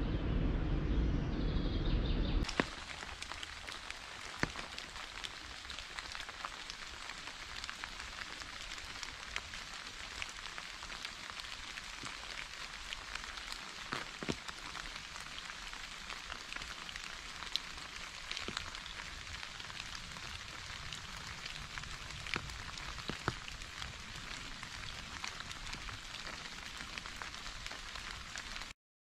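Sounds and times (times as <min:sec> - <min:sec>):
rain pattering: 0:02.4 - 0:28.8.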